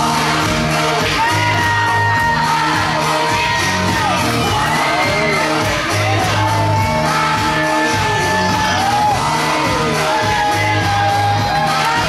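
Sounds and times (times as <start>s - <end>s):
song echoing through hall: 0.0s - 12.0s.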